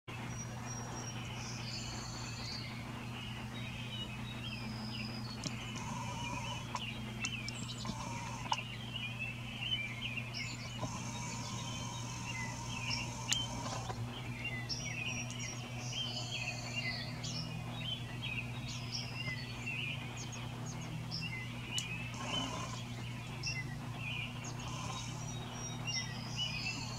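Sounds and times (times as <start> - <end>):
low hum: 0.1 - 26.9
small birds chirping: 0.1 - 26.9.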